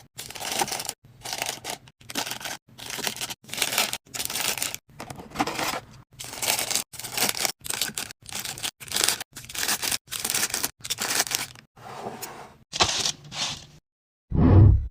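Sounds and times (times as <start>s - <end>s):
food packaging crinkling and tearing: 0.2s - 11.7s, 12.8s - 13.6s.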